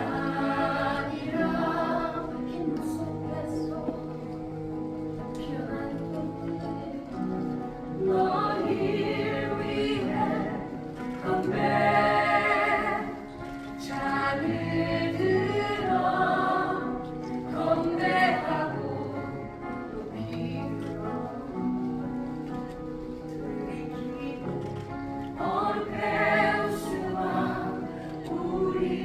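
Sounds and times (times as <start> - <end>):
cast singing together: 0.0 - 21.9, 23.4 - 29.0.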